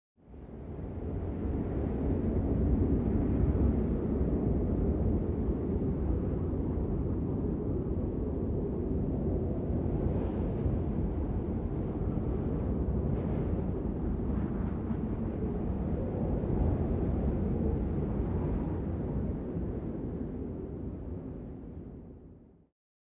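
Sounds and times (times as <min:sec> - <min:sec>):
deep rumble: 0:01.3 - 0:22.4.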